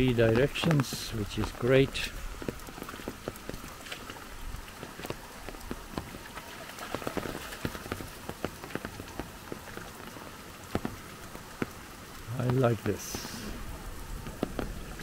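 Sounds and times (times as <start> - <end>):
raindrops hitting water: 0.0 - 15.0
steady rain hiss: 0.0 - 15.0.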